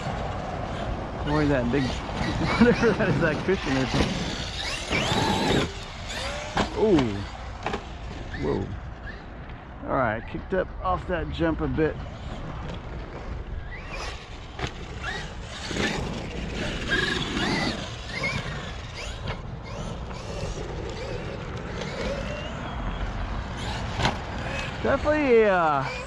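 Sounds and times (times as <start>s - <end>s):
electric motor whining: 0.0s - 9.3s, 13.4s - 26.0s
tyres on dirt: 0.0s - 26.0s.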